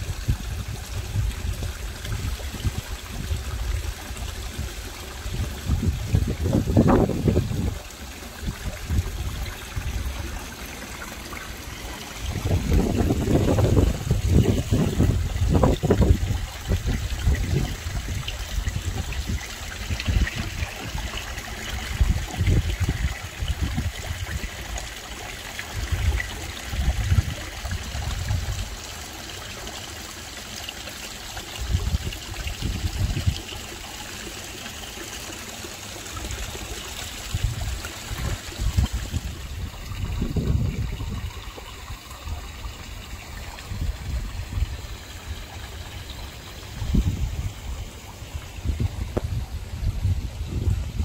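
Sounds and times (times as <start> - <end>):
wind buffeting microphone: 0.0 - 24.9, 25.8 - 28.8, 31.6 - 33.5, 37.1 - 51.0
waterfall splashing into pond: 0.0 - 51.0.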